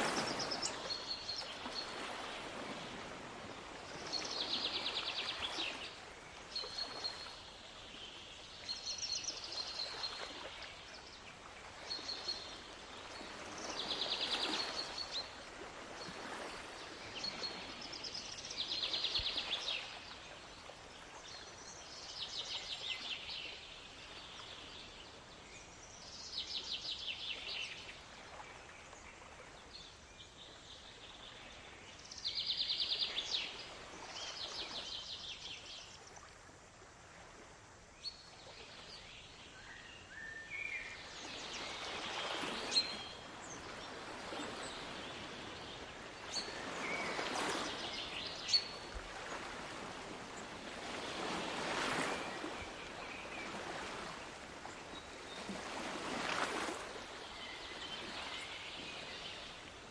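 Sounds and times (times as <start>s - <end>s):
surf washing in and out: 0.0s - 59.9s.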